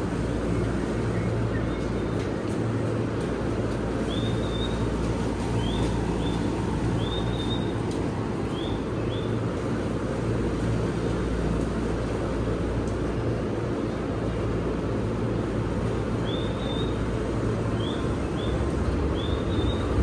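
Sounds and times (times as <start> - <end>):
train low hum: 0.0 - 20.0.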